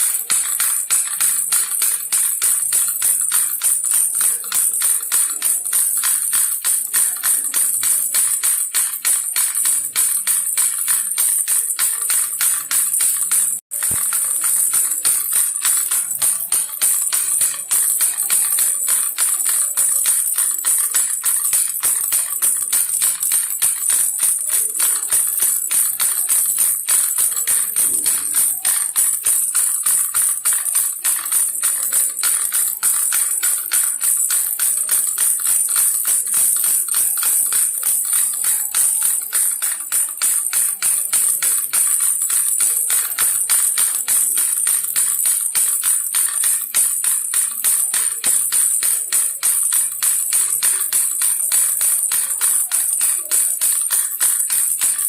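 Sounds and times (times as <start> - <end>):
baby rattle shaken: 0.0 - 55.0.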